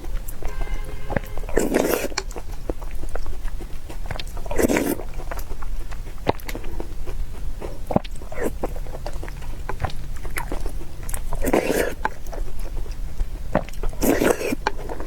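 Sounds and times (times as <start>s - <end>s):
person chewing food: 0.0s - 15.0s
noisy bite or slurp: 1.1s - 15.0s.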